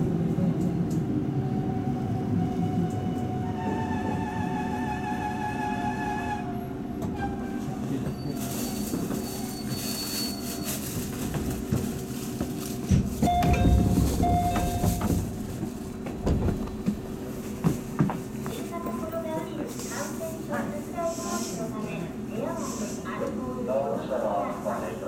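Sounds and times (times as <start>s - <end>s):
train wheels rumbling on rail: 0.0s - 23.7s.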